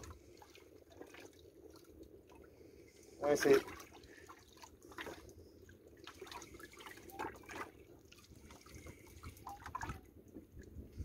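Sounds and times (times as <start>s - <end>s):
small waves lapping against boat hull: 0.0s - 11.0s.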